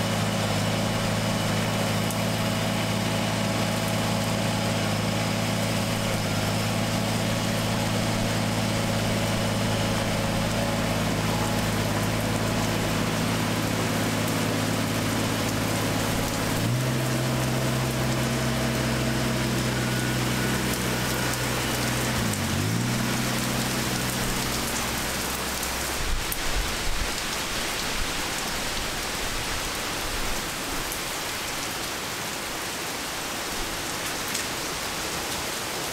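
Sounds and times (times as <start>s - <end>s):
tractor diesel engine running: 0.0s - 31.0s
heavy rain on gravel: 0.0s - 35.9s.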